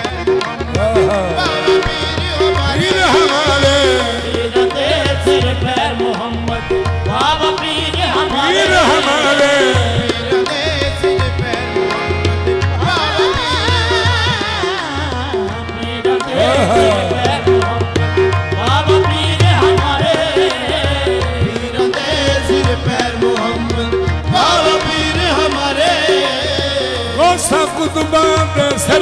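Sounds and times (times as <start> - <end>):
harmonium: 0.0 - 29.0
singers' melodic runs: 0.0 - 29.0
tabla: 0.0 - 29.0.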